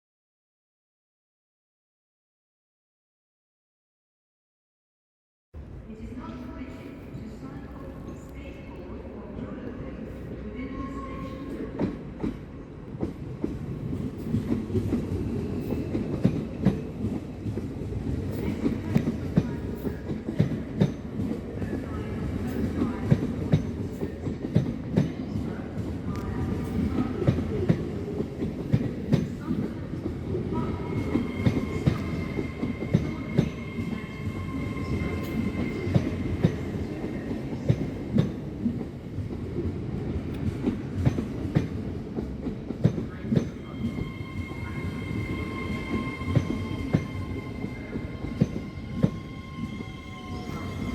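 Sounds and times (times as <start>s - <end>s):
train rumbling: 5.6s - 50.9s.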